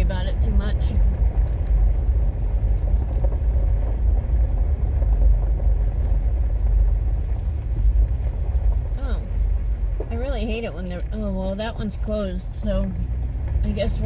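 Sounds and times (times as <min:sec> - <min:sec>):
road and engine rumble in cabin: 0:00.0 - 0:14.0.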